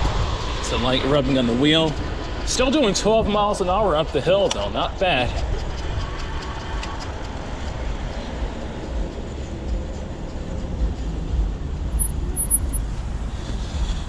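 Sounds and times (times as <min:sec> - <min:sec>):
steady road noise: 0:00.0 - 0:14.0.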